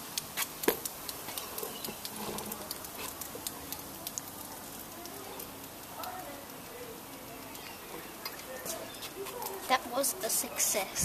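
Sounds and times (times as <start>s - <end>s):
foam fizzing: 0.0s - 11.0s.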